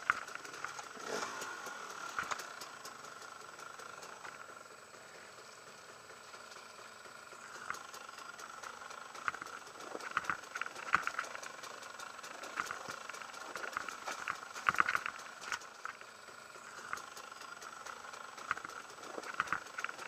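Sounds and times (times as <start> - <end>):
wheels knocking on stones: 0.0 - 4.4, 7.5 - 16.1, 16.8 - 20.0
two-stroke motorcycle engine: 0.0 - 20.0.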